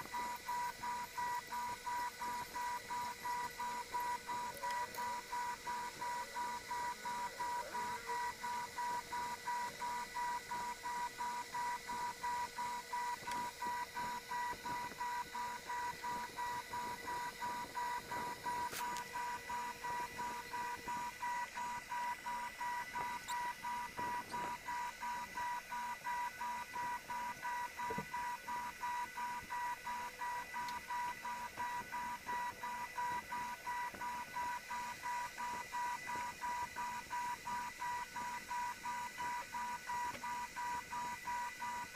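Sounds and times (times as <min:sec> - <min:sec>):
pulsing electronic beeps: 0:00.2 - 0:41.9.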